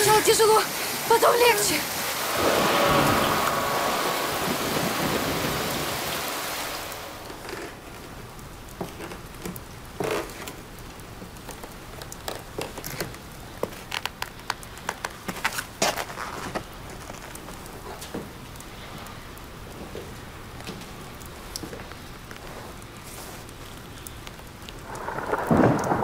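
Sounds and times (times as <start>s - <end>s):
heavy rain hissing: 0.0s - 12.6s, 16.7s - 26.0s.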